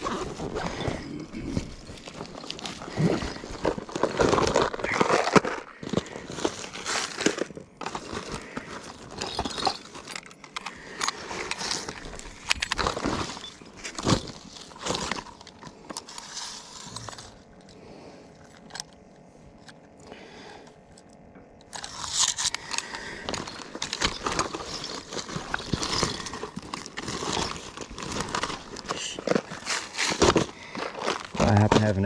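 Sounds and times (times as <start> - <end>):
rummaging through bag rustling: 0.0 - 32.0.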